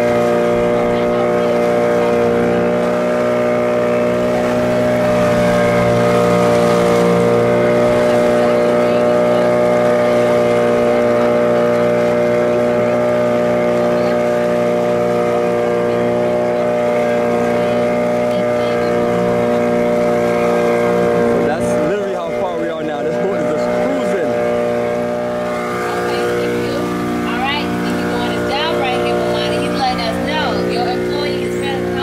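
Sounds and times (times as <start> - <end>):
motorboat engine running: 0.0 - 32.0
water rushing past hull: 0.0 - 32.0.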